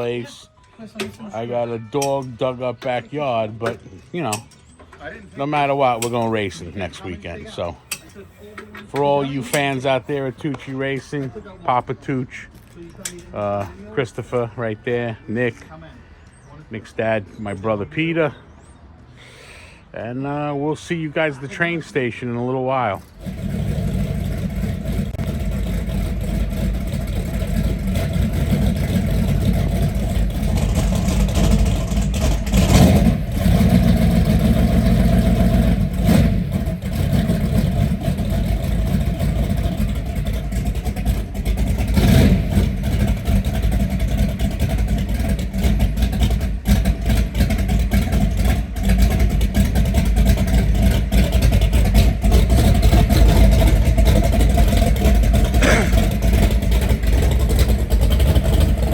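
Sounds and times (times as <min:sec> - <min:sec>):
vehicle engine and road rumble: 0:00.0 - 0:58.9.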